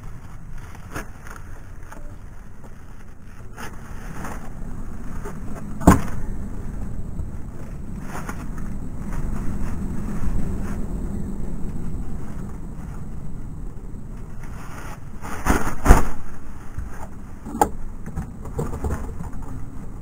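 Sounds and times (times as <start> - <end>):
plastic garbage bags rustling: 0.0 - 17.9
wind rumbling on microphone: 0.0 - 20.0.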